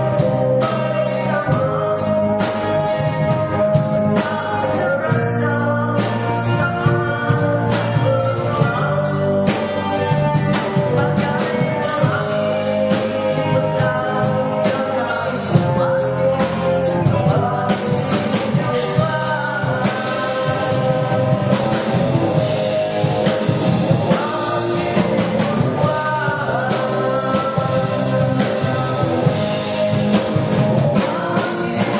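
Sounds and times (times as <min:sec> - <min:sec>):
live rock band playing: 0:00.0 - 0:31.9
person singing: 0:00.0 - 0:31.9.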